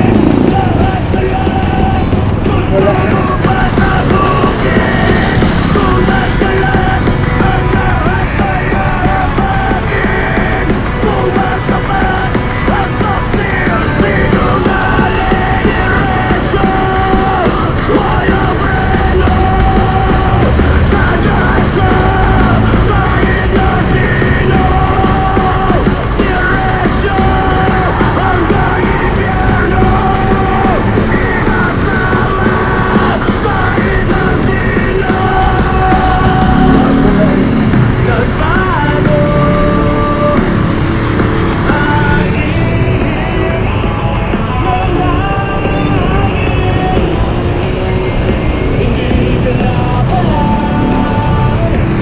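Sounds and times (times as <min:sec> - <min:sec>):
heavy rock music with yelled vocals: 0:00.0 - 0:52.0.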